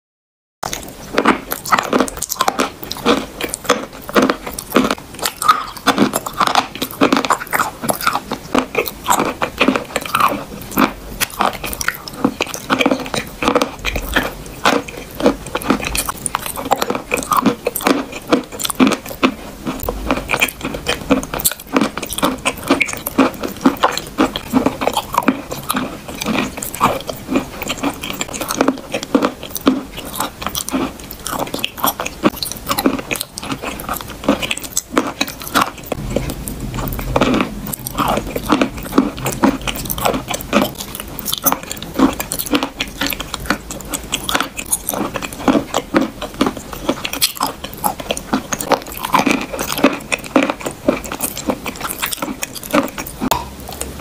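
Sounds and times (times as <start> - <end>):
wet mouth clicks: 0.6 - 53.9
chewing wet paste: 0.6 - 54.0.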